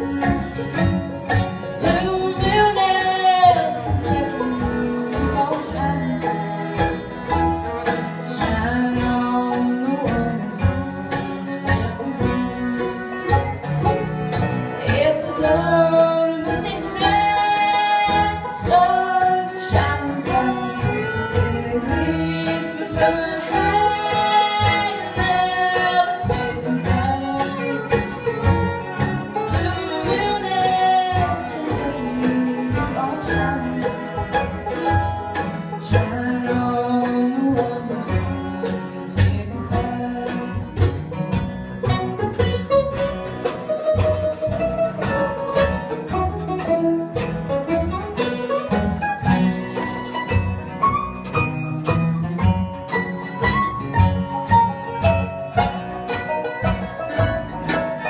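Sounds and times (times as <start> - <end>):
bluegrass band playing: 0.0 - 58.0
fiddles playing melody: 0.0 - 58.0.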